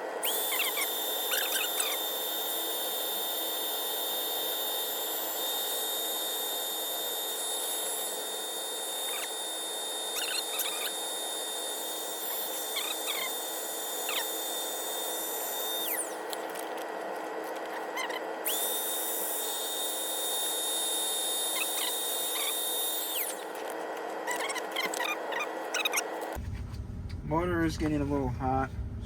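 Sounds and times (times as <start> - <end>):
air pump high whine: 0.0 - 29.0
electric air pump motor hum: 0.0 - 29.0.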